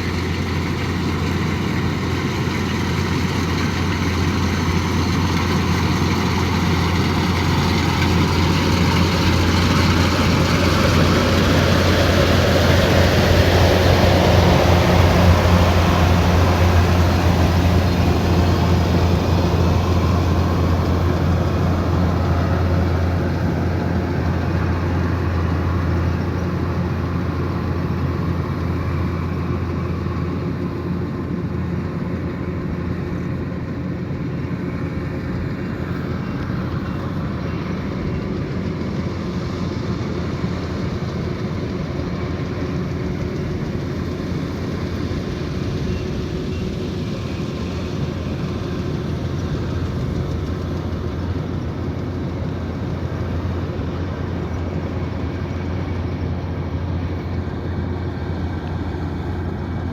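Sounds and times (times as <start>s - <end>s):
combine harvester engine hum: 0.0s - 59.9s.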